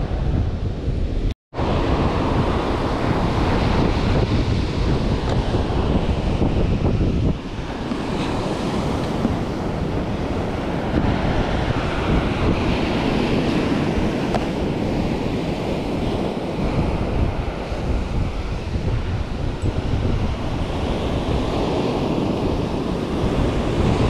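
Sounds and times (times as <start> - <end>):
wind buffeting microphone: 0.0 - 24.0
ocean surf breaking: 1.6 - 24.0.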